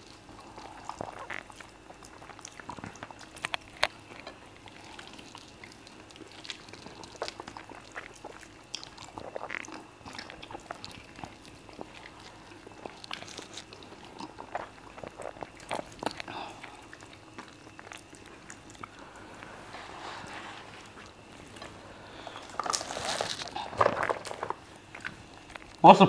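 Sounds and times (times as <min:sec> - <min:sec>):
wet chewing and lip-smacking: 0:00.0 - 0:25.8.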